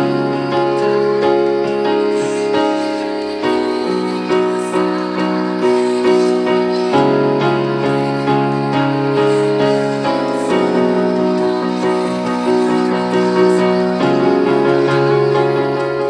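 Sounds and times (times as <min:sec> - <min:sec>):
keyboard playing slow piano chords: 0:00.0 - 0:16.0.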